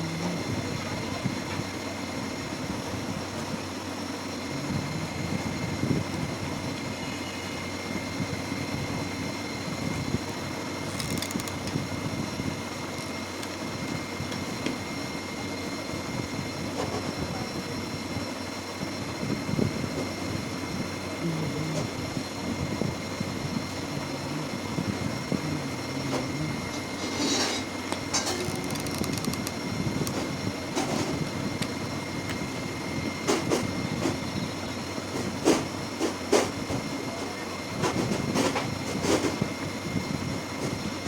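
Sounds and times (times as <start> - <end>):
small motor fan whirring: 3.0 - 16.5, 17.2 - 36.8.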